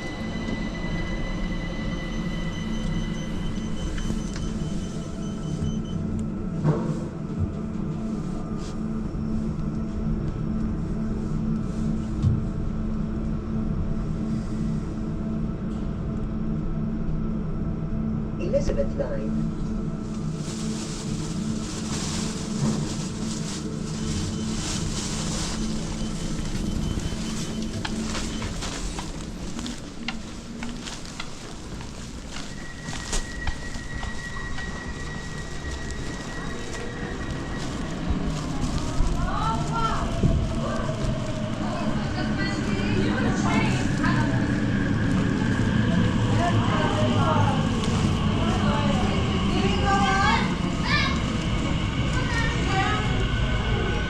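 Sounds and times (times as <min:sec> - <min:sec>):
electric train hum: 0:00.0 - 0:54.0.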